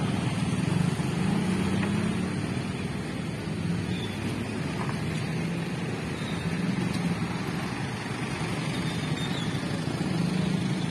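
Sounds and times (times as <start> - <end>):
vehicles driving slowly past: 0.0 - 10.9.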